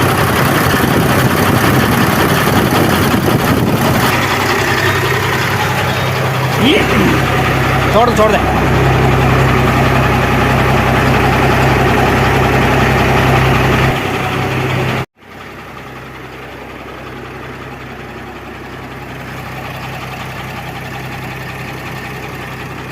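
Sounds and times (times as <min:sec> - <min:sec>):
diesel truck engine running: 0:00.0 - 0:22.9.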